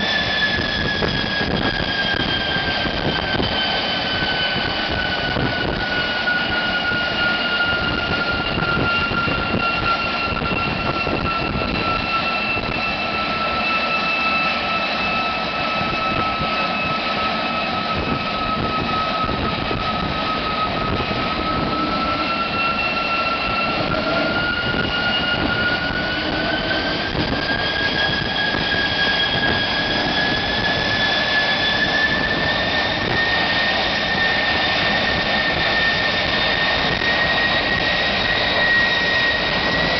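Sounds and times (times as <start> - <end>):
high compressor whine: 0.0 - 39.9
turbojet engine roar: 0.0 - 39.9.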